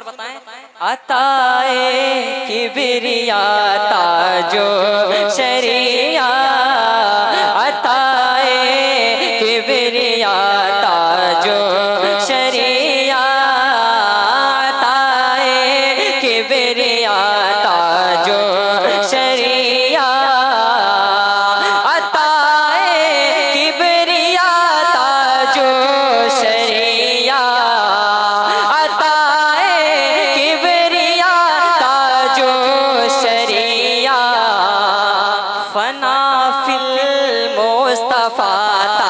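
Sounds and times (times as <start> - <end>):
man singing into a microphone: 0.0 - 39.0.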